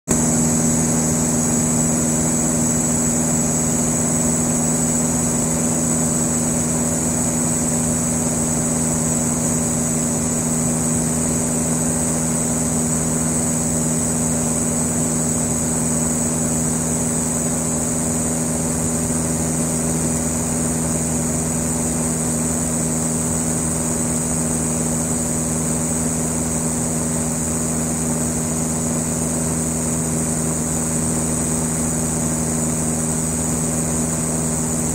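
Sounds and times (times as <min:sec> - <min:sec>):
aircraft engine drone: 0:00.1 - 0:34.9
high-pitched whine: 0:00.1 - 0:34.9.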